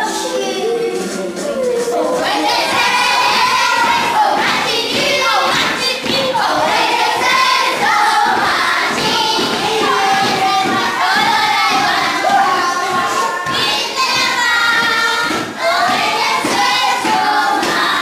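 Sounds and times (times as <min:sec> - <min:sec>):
children singing together: 0:00.0 - 0:18.0
thumps: 0:02.5 - 0:17.9.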